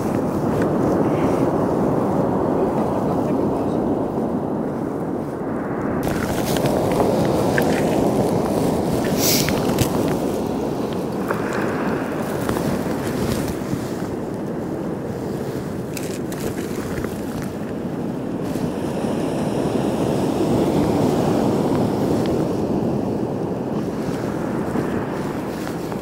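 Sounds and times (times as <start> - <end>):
sea surf on rocks: 0.0 - 26.0
wind buffeting microphone: 0.0 - 26.0.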